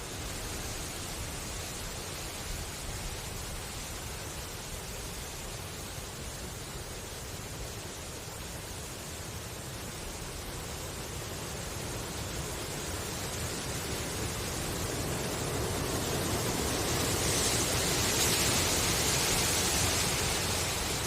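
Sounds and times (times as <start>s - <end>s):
bamboo leaves rustling in breeze: 0.0s - 21.0s.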